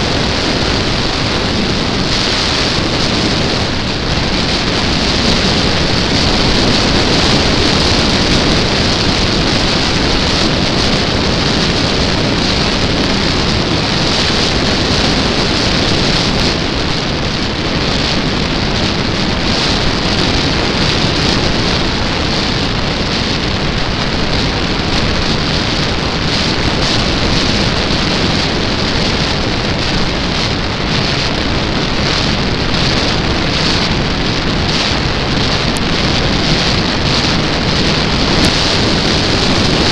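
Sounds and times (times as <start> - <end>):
air rushing over camera: 0.0 - 39.9
model plane propeller noise: 0.0 - 39.9.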